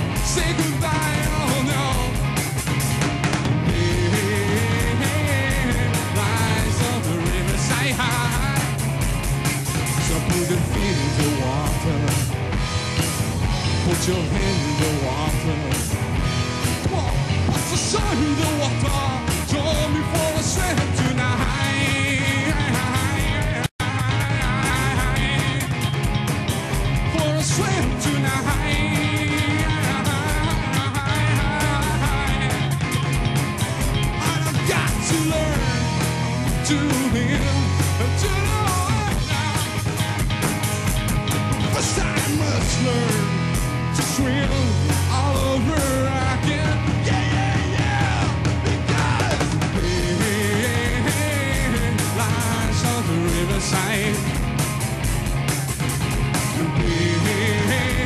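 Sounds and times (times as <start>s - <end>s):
rock band playing live: 0.0s - 58.0s
steady drum beat: 0.0s - 58.0s.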